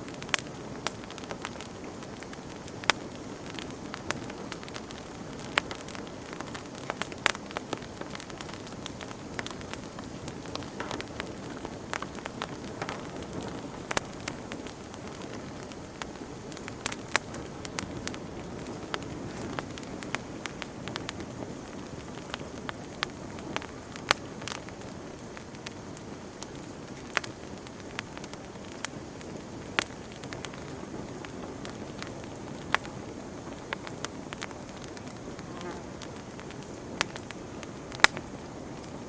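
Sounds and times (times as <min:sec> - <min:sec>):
campfire burning: 0:00.0 - 0:39.0
wood crackling and popping: 0:00.0 - 0:39.0.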